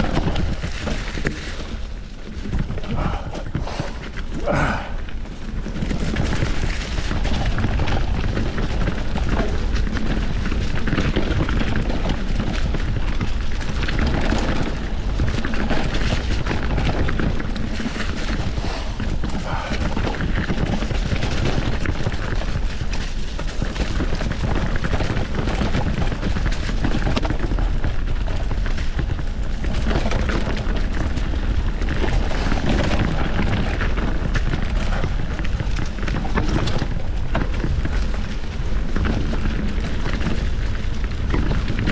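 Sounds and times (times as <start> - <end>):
bike frame rattling: 0.0 - 41.9
bike tyres crunching on dirt: 0.0 - 41.9
wind buffeting microphone: 0.0 - 41.9.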